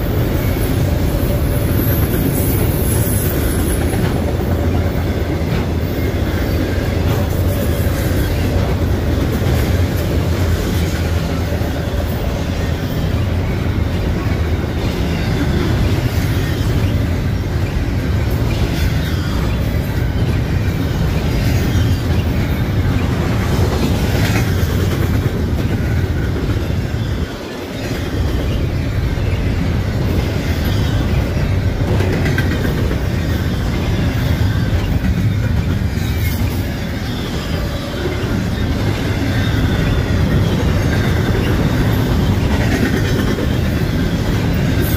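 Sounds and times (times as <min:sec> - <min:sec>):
freight train wheels rumbling on rail: 0:00.0 - 0:44.9.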